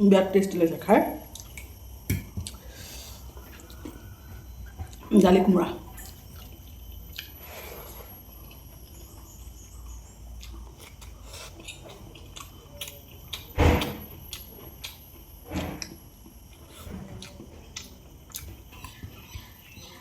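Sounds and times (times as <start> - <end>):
person chewing: 1.2 - 5.2, 5.8 - 20.0.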